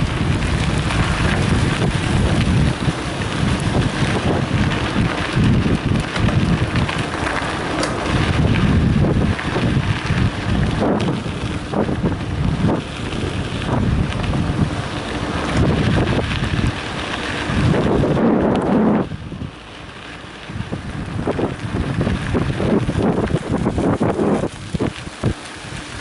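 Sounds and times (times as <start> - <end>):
wind buffeting microphone: 0.0 - 19.6, 20.4 - 26.0
bike jolting over bumps: 0.0 - 26.0
tyres rumbling on gravel: 0.0 - 26.0.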